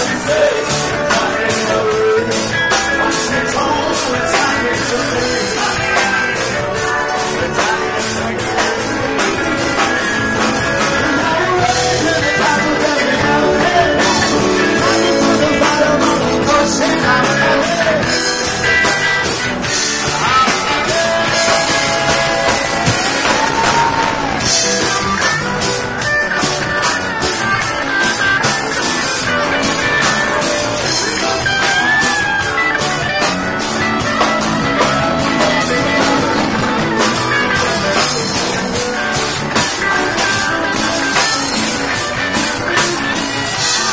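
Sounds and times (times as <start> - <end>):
drum kit with cymbal beat: 0.0 - 43.9
electric guitar: 0.0 - 43.9
person singing: 0.0 - 43.9.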